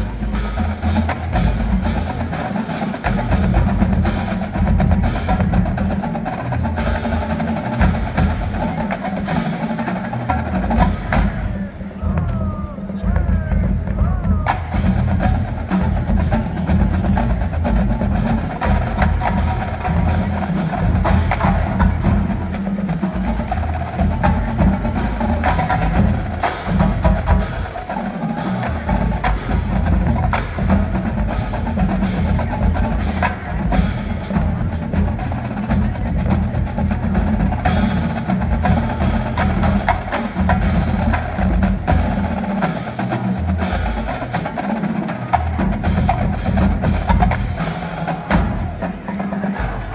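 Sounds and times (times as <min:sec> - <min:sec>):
marching band drums: 0:00.0 - 0:49.9.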